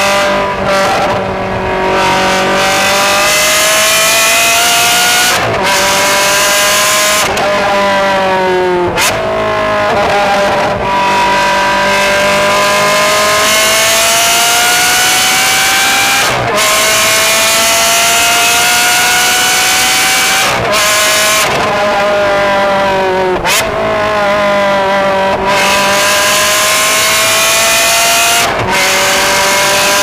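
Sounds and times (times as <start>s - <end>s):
sports car engine revving: 0.0s - 30.0s.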